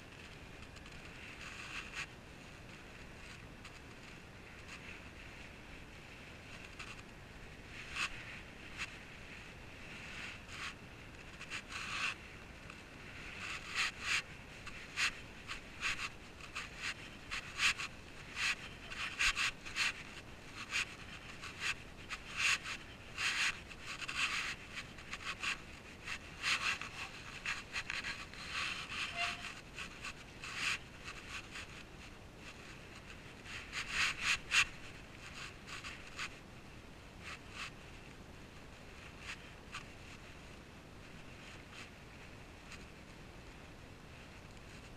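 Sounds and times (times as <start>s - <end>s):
rubbing against camera: 0.1s - 36.5s, 37.2s - 38.0s, 38.8s - 43.0s.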